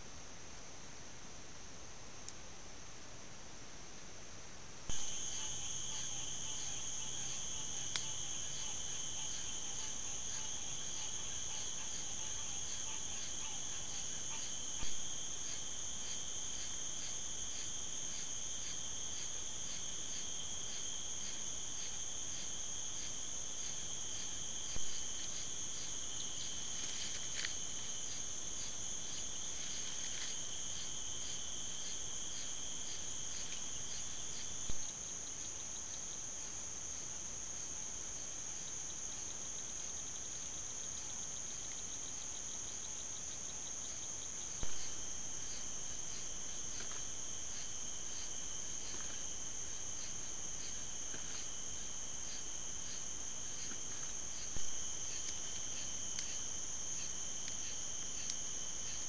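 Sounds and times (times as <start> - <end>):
insects trilling and chirping: 4.9 - 59.0.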